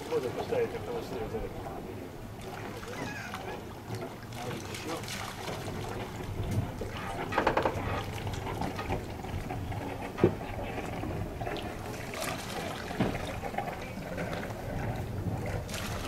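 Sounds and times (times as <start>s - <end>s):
water lapping: 0.0s - 16.0s
low steady rumble: 0.1s - 16.0s.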